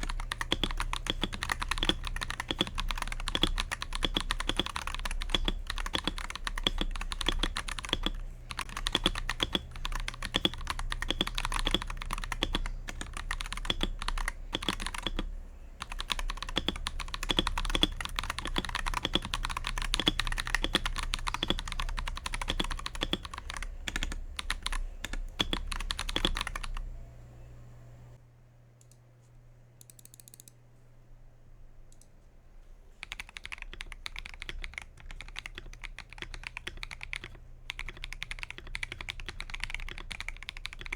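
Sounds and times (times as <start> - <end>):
mechanical keyboard typing: 0.0 - 26.9, 33.0 - 40.9
faint hum: 0.0 - 40.9.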